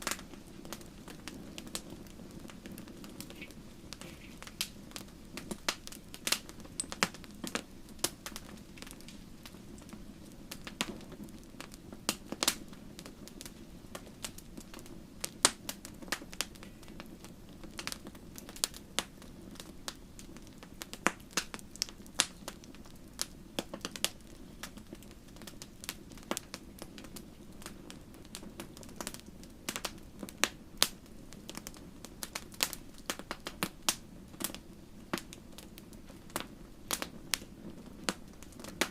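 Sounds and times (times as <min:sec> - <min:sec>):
rumble of flames: 0:00.0 - 0:38.9
wood fire crackling and popping: 0:00.0 - 0:38.9.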